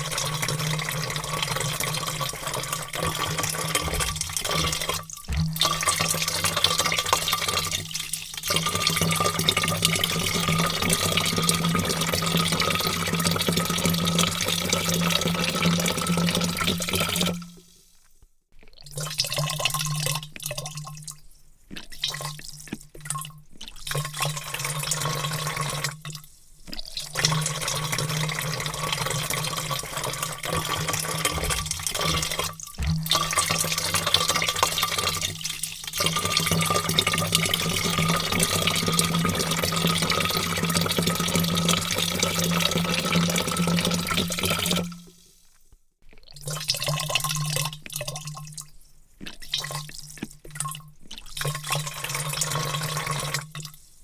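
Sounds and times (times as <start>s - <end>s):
water pouring into vat: 0.0s - 54.0s.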